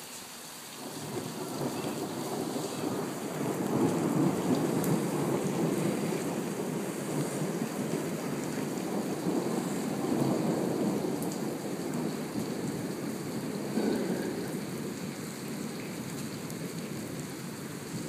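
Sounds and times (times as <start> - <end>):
rain falling on pavement: 0.0 - 18.0.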